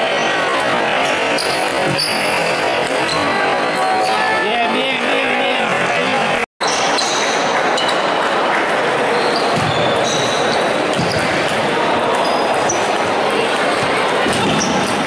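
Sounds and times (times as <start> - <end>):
din of busy hall: 0.0 - 15.0.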